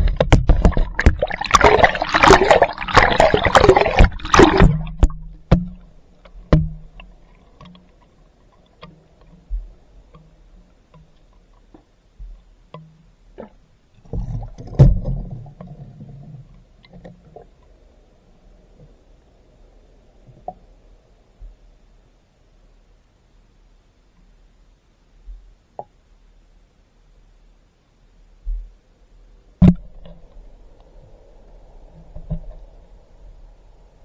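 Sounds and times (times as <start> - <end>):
water splashing and sloshing: 0.0 - 21.8, 28.4 - 34.0
faint low hum: 0.0 - 34.0.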